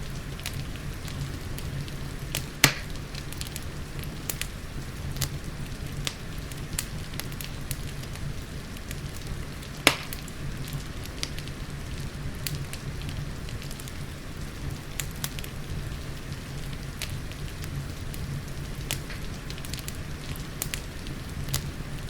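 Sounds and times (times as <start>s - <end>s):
fire crackling with pops: 0.0s - 22.0s
steady falling rain: 0.0s - 22.0s.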